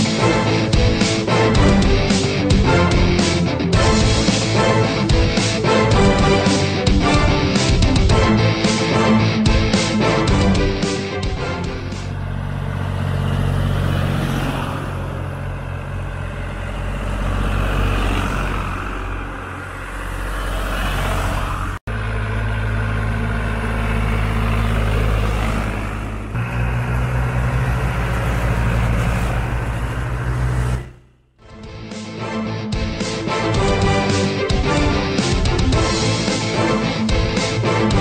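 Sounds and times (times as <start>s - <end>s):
road and tyre noise: 0.0s - 38.0s
tractor engines droning: 0.0s - 38.0s.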